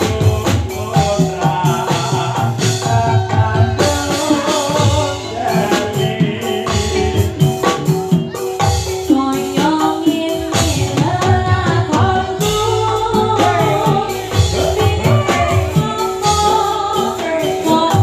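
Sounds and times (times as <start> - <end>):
drum strokes: 0.0 - 18.0
gamelan ensemble: 0.0 - 18.0
person singing: 0.0 - 18.0.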